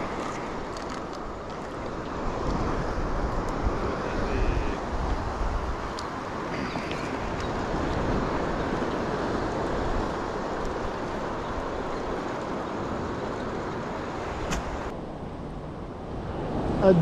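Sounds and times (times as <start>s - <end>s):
wind on microphone: 0.0s - 14.9s
sea surf: 0.0s - 17.0s.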